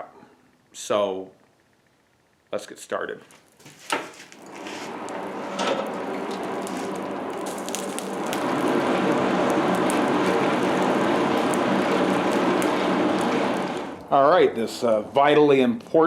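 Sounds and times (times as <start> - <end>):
forge fire hissing and crackling: 0.8 - 16.0.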